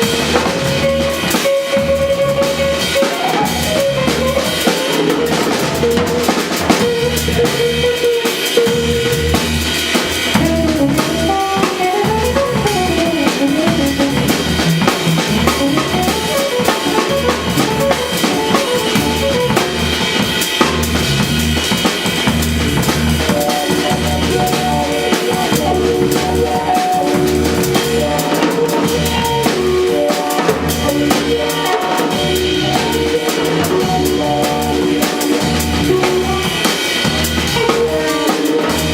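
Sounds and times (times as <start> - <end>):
bass notes: 0.0 - 38.9
drum kit: 0.0 - 38.9
jazz trio playing: 0.0 - 38.9.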